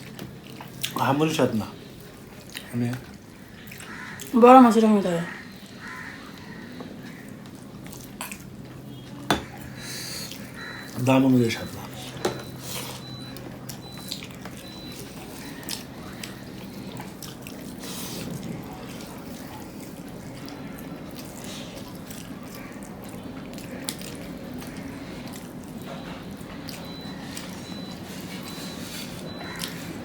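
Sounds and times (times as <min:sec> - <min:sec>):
people eating wet squelching: 0:00.0 - 0:30.0.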